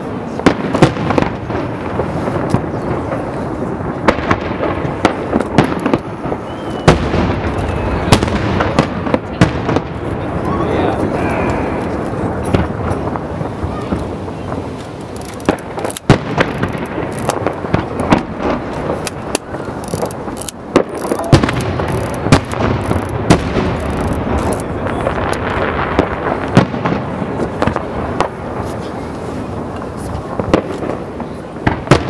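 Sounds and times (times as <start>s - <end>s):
fireworks bursting with bangs and crackles: 0.0s - 32.0s.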